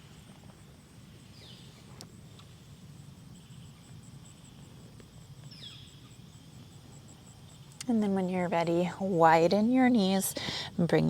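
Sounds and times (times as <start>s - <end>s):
insect pulsing trill: 0.0s - 11.0s.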